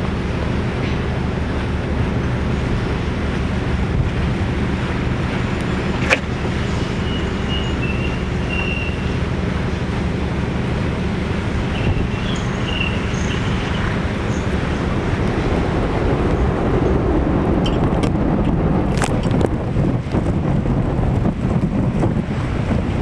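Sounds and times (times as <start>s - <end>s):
boat engine running: 0.0s - 23.0s
wind on microphone: 0.0s - 23.0s.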